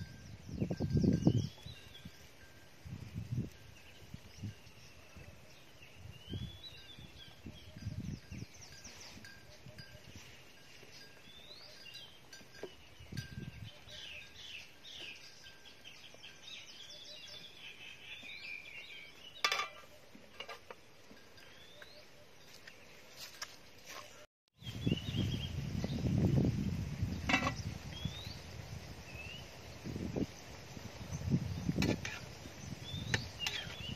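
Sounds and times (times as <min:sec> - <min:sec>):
birds chirping and singing: 0:00.0 - 0:02.3, 0:03.7 - 0:20.6, 0:21.4 - 0:23.4, 0:24.6 - 0:33.9.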